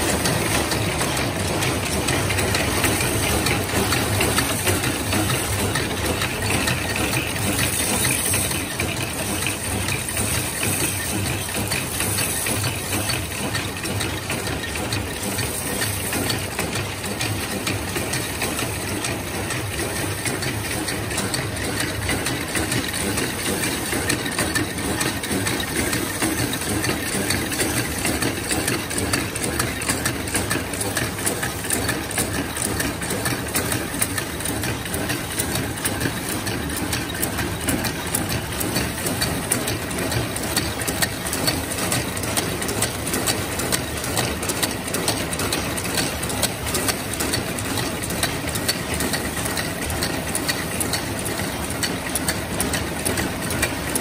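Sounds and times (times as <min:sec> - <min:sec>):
machine metallic clatter: 0:00.0 - 0:54.0.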